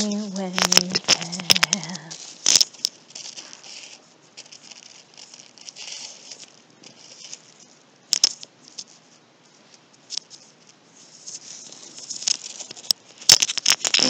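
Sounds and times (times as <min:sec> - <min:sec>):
soft rustling: 0:00.0 - 0:14.0.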